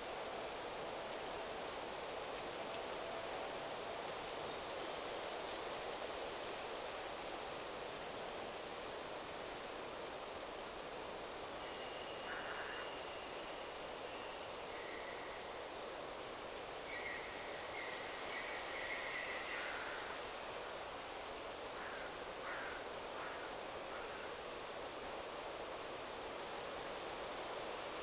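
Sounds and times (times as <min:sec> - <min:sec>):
wind rustling in trees: 0:00.0 - 0:28.0.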